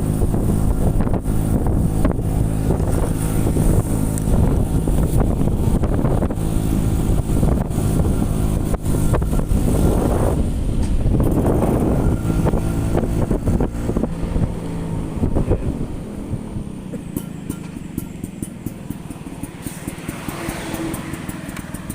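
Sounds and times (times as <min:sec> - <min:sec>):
motorcycle engine running: 0:00.0 - 0:21.9
wind buffeting microphone: 0:00.0 - 0:21.9.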